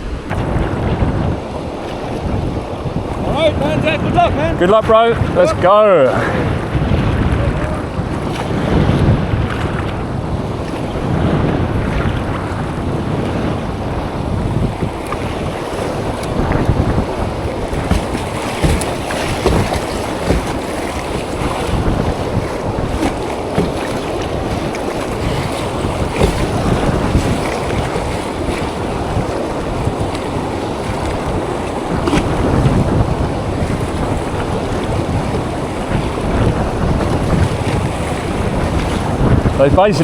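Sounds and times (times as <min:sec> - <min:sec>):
rushing whitewater rapids: 0:00.0 - 0:40.0
wind buffeting microphone: 0:00.0 - 0:40.0.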